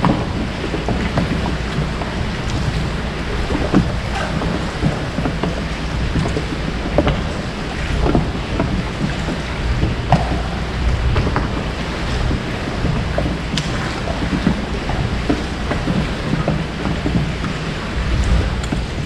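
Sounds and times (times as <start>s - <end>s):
water lapping against boat: 0.0s - 19.0s.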